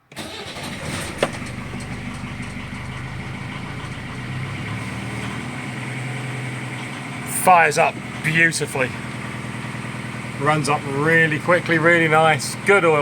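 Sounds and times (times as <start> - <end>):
diesel engine idling: 0.1 - 13.0.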